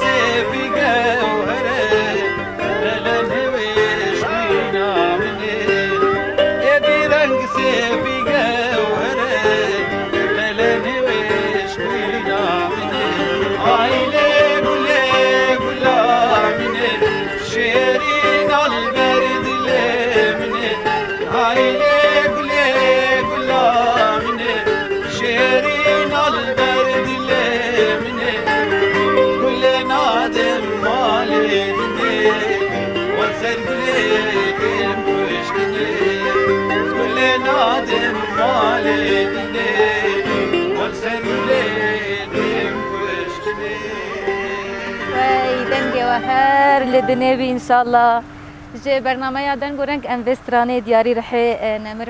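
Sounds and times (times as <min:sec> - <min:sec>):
man singing into microphone: 0:00.0 - 0:47.5
long-necked lutes playing: 0:00.0 - 0:48.7.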